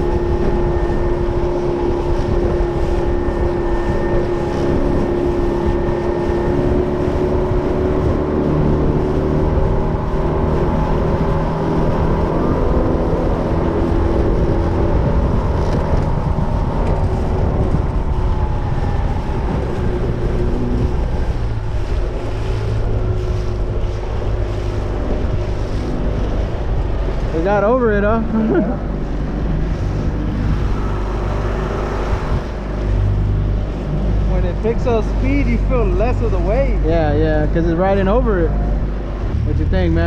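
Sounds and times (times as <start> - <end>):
outboard motor running: 0.0 - 40.0
wind on microphone: 0.0 - 40.0.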